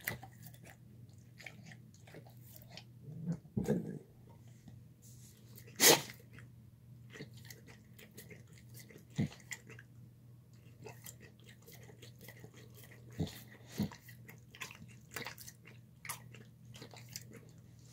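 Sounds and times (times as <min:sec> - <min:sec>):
dog chewing and licking: 0:00.0 - 0:03.0, 0:05.4 - 0:17.9.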